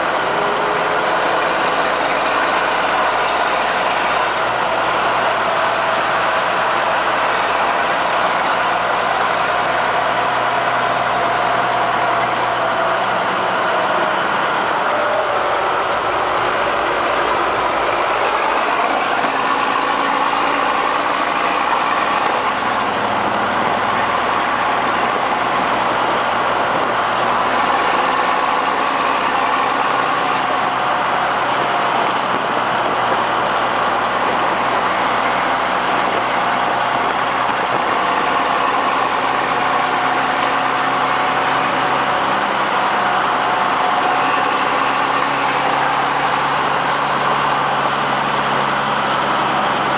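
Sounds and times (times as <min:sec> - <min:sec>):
road noise: 0:00.0 - 0:49.9
truck engine drone: 0:00.0 - 0:49.9.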